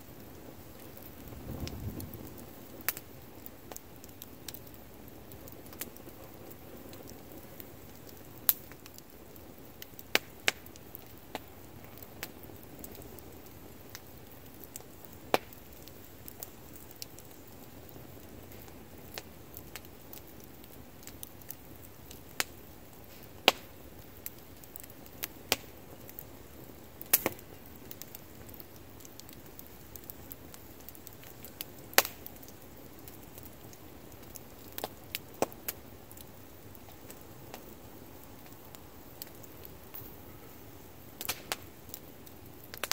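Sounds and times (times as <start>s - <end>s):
bonfire crackling and popping: 0.0s - 42.9s
faint fire hiss: 0.0s - 42.9s.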